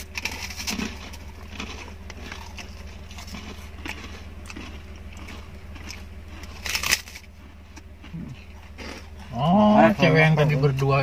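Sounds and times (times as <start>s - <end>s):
rice crackers crunching: 0.0s - 9.4s
low hum inside car: 0.0s - 11.0s.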